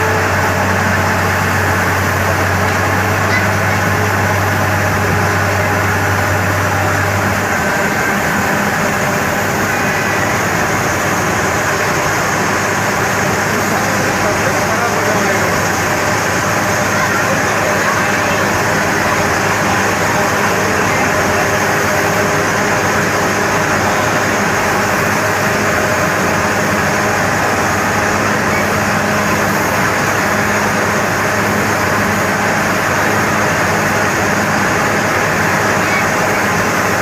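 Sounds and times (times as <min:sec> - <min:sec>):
drilling rig machine drone: 0:00.0 - 0:37.0.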